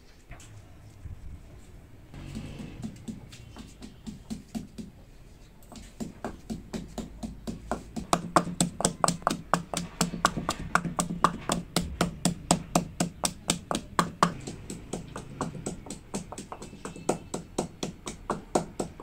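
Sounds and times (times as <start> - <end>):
pestle pounding in stone mortar: 2.2 - 5.0, 5.6 - 19.0.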